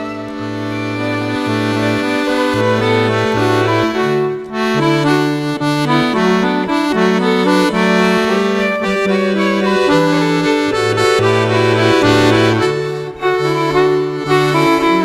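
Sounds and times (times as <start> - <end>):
accordion playing a tune: 0.0 - 15.0.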